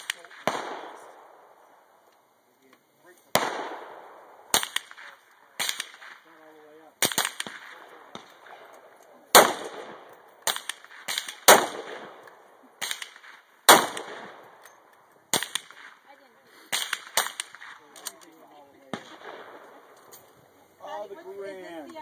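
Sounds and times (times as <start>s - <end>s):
rifle shots with echo: 0.0s - 2.0s, 3.3s - 20.1s.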